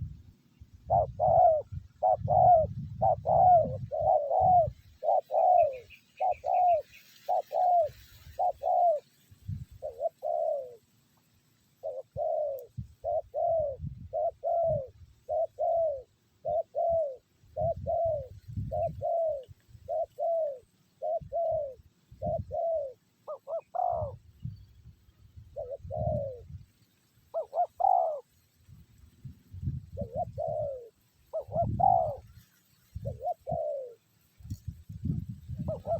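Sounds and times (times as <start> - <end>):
dove cooing: 0.0 - 10.9, 11.8 - 24.6, 25.4 - 26.7, 27.3 - 28.4, 29.6 - 32.4, 33.0 - 35.9.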